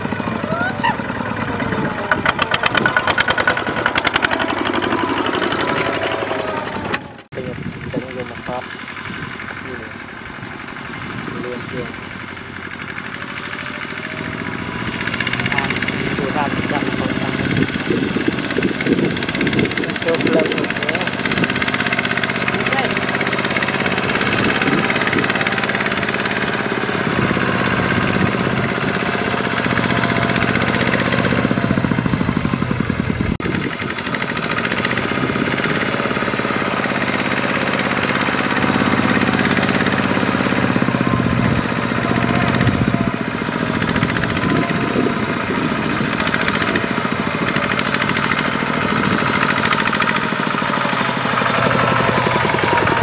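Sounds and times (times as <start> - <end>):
diesel tractor engine running: 0.0 - 53.0.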